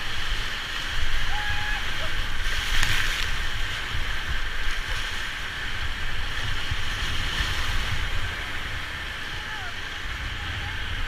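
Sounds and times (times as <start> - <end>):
river water rushing: 0.0 - 11.0
wind buffeting microphone: 0.0 - 11.0.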